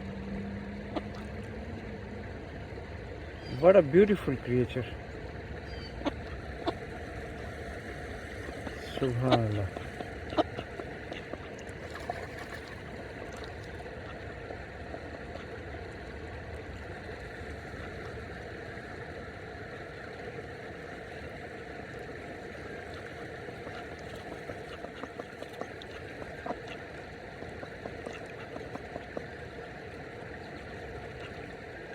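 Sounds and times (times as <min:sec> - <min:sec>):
river water flowing: 0:00.0 - 0:31.9.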